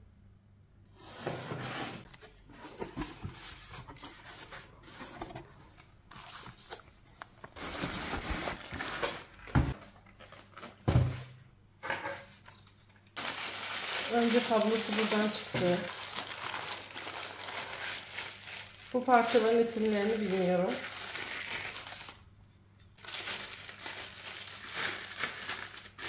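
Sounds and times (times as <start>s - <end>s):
packaging rustling: 2.0s - 10.9s, 13.2s - 22.2s, 23.0s - 26.0s.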